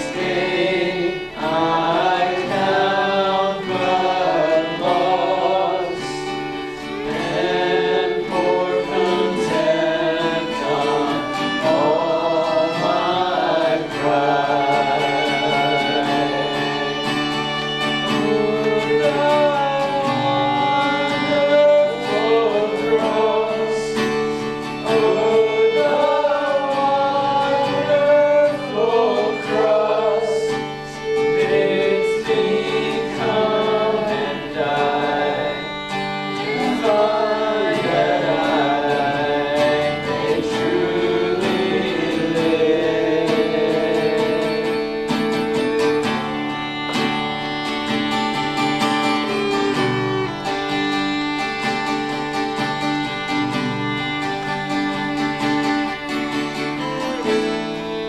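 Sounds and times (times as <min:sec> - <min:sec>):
voices singing long notes: 0:00.0 - 0:51.5
sustained guitar: 0:00.0 - 0:58.0.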